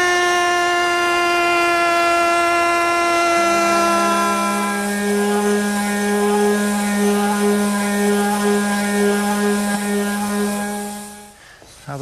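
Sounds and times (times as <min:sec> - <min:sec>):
router motor hum: 0:00.0 - 0:11.4.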